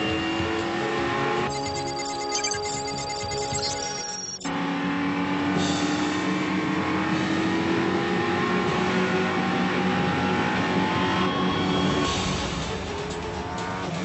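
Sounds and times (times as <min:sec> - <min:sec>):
race car engine rising in pitch: 0:00.0 - 0:14.0.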